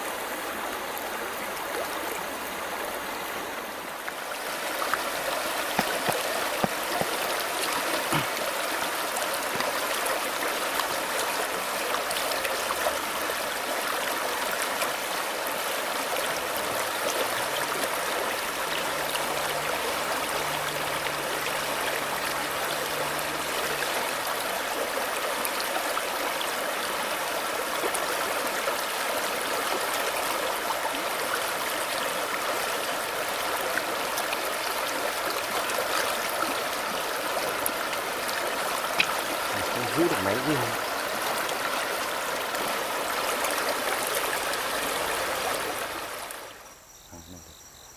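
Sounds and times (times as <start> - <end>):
stream babbling over rocks: 0.0 - 46.7.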